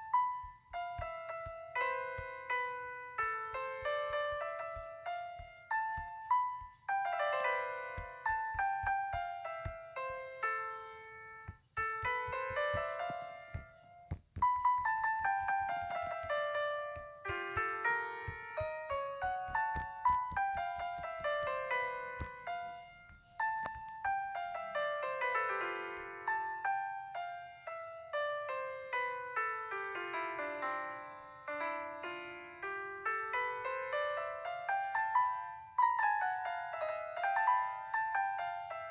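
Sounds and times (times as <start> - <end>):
piano music with falling runs: 0.0 - 38.9.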